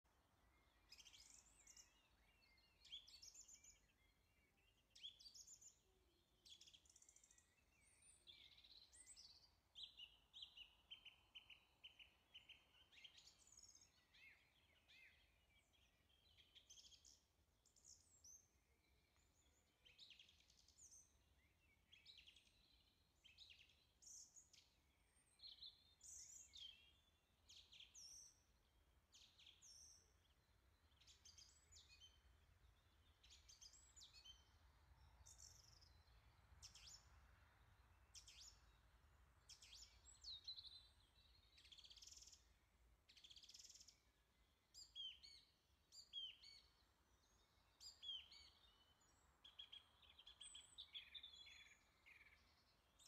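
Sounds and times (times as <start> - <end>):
faint birdsong: 0.0 - 53.0.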